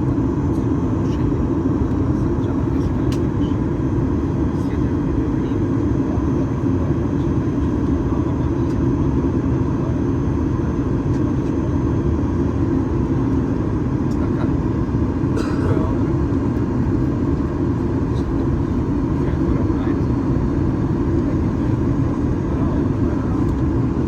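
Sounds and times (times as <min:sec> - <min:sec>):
airplane cabin drone: 0:00.0 - 0:24.0.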